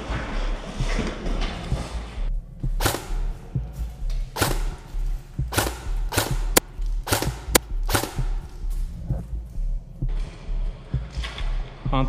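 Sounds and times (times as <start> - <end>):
music with pulsing bass beat: 0.0 - 12.0
hissing percussion hits: 1.7 - 11.6.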